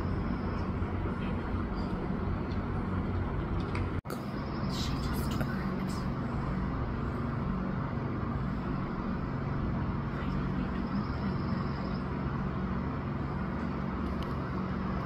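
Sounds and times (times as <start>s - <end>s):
outdoor background noise: 0.0s - 15.0s
steady low hum: 0.0s - 15.0s.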